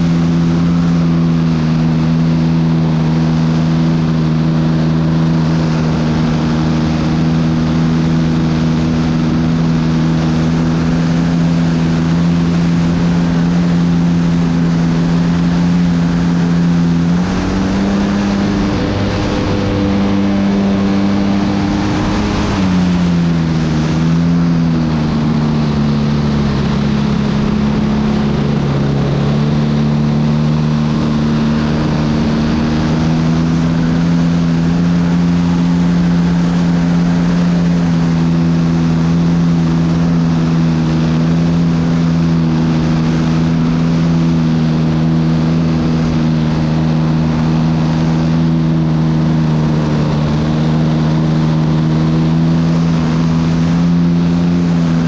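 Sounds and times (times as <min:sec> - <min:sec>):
model airplane engine buzzing: 0:00.0 - 0:55.0
wind rush: 0:00.0 - 0:55.0.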